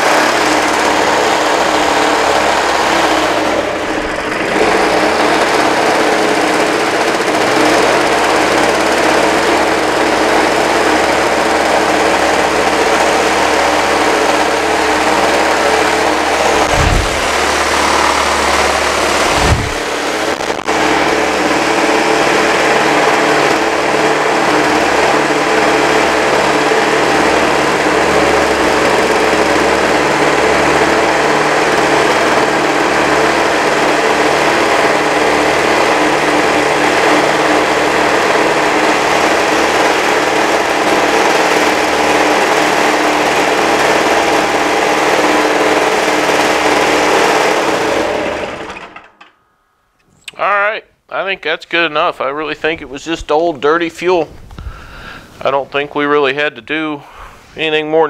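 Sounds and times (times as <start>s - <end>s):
snowblower engine running: 0.0s - 49.3s, 52.3s - 56.4s.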